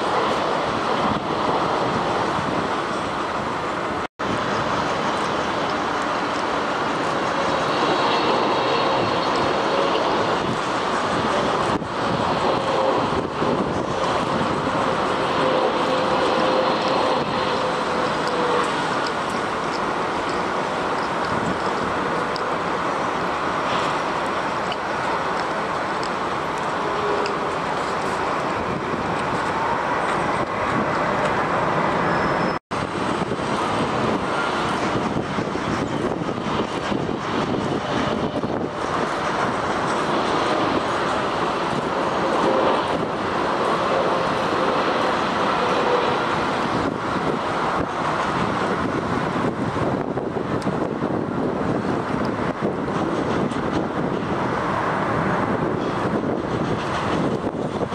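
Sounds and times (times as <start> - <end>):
jet engines: 0.0 - 57.9
wind on microphone: 0.0 - 57.9.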